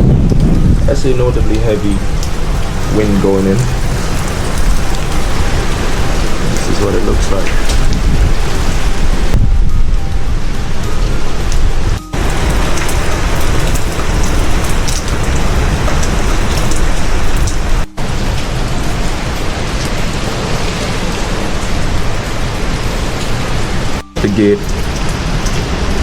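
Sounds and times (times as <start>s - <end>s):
heavy rain: 0.0s - 26.0s
strong wind rumbling on microphone: 0.0s - 26.0s.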